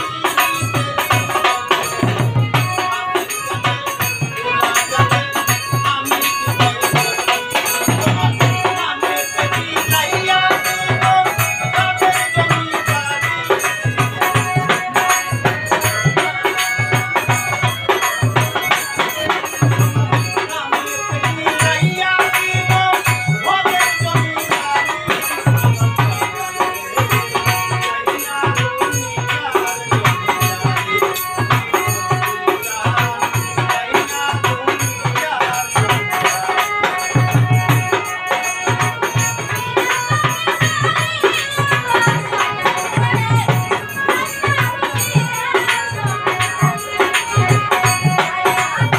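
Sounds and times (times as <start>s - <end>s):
hand drum beat: 0.0s - 48.9s
harmonium: 0.0s - 48.9s
man singing: 0.0s - 48.9s
rattling percussion: 0.0s - 48.9s.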